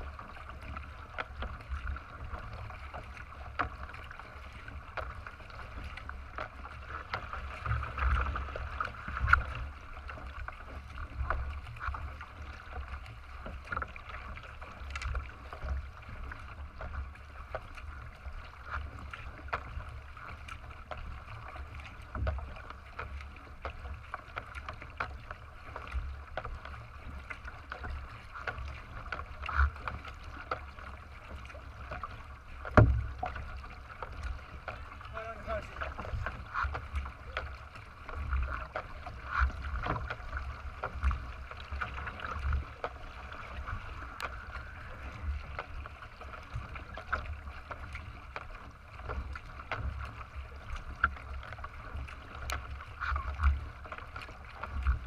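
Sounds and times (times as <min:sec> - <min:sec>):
water washing along hull: 0:00.0 - 0:55.0.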